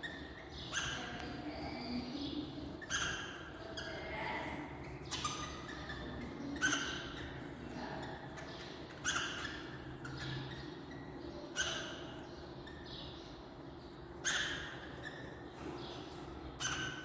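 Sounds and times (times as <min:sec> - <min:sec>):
parrots chattering: 0:00.0 - 0:17.0
parrots squawking: 0:00.0 - 0:17.0.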